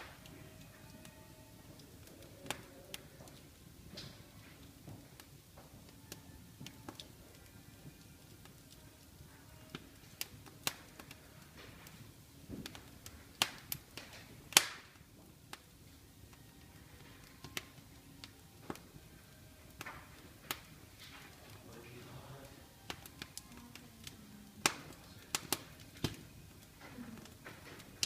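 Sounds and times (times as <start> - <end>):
low steady hiss: 0.0 - 28.0
wood fire crackling and popping: 0.0 - 28.0.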